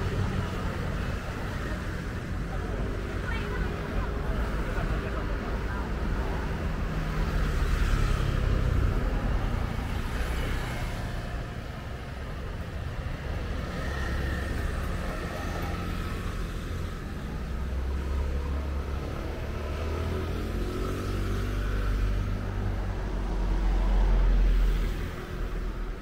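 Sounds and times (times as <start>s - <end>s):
outdoor traffic noise: 0.0s - 26.0s.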